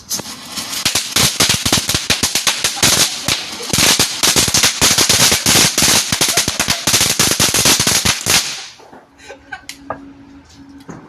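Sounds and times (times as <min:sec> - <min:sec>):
firework crackling: 0:00.0 - 0:09.0.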